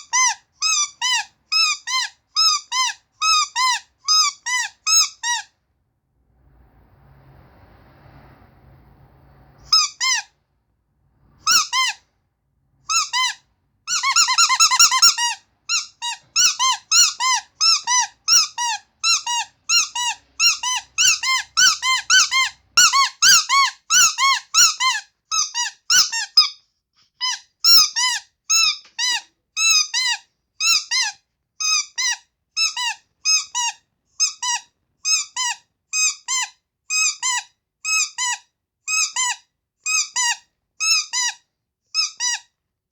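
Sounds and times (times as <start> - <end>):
squeaky toy squeaking: 0.0 - 5.6, 9.7 - 10.4, 11.4 - 12.1, 12.8 - 42.6.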